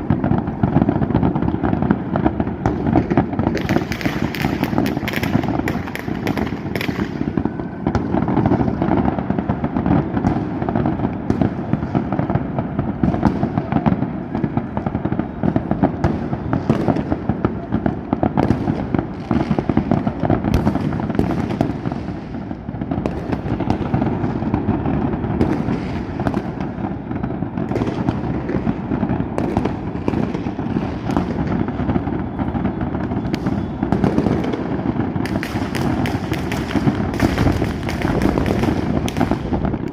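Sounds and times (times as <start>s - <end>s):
fireworks bangs and crackles: 0.0s - 39.9s
sharp firework cracks: 0.0s - 39.9s.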